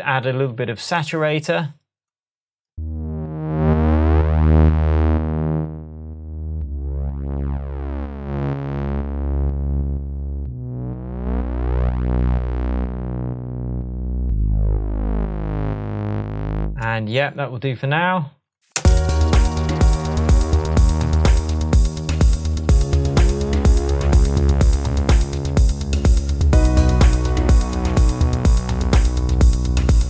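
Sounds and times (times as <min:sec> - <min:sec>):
synth bass notes: 0:02.8 - 0:17.1, 0:18.8 - 0:30.0.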